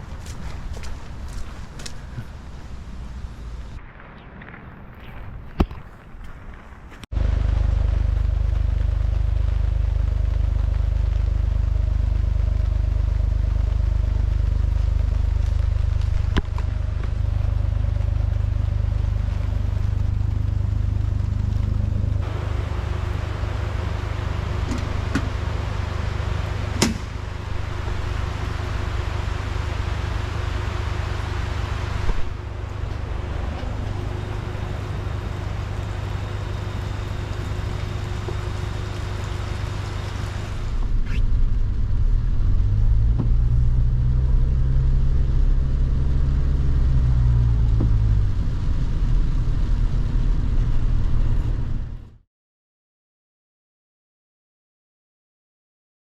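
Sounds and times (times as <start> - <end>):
car engine and road noise: 0.0 - 3.9, 4.9 - 52.2.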